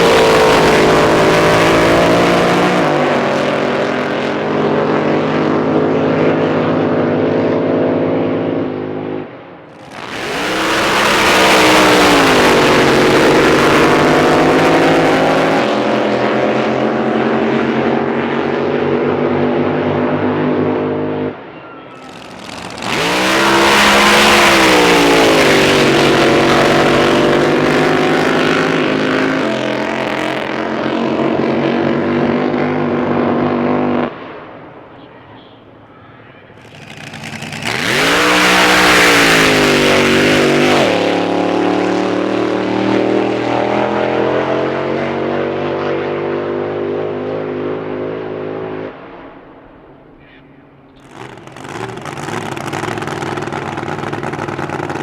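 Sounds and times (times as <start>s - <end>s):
racing boat engines at full throttle: 0.0s - 21.4s, 22.0s - 34.1s, 36.5s - 48.8s, 51.0s - 55.0s.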